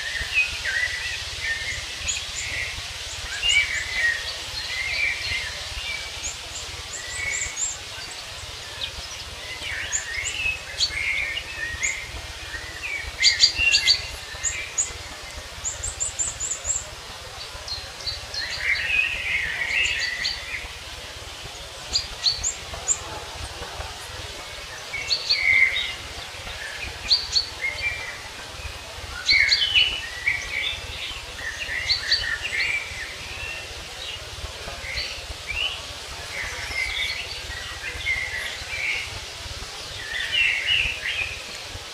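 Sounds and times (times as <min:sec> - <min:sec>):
songbirds chirping and singing: 0:00.0 - 0:41.9.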